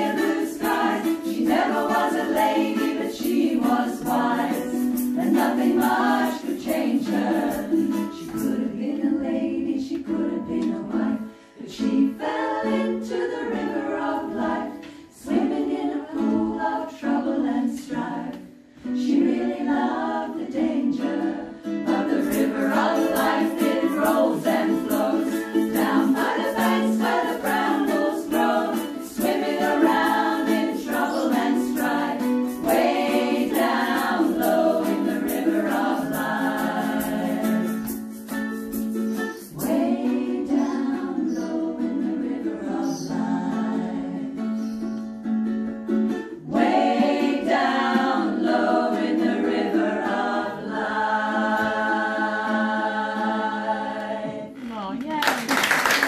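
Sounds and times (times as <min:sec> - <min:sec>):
women singing in harmony: 0:00.0 - 0:38.2, 0:39.1 - 0:45.0, 0:46.3 - 0:54.7
ukulele: 0:00.0 - 0:56.0.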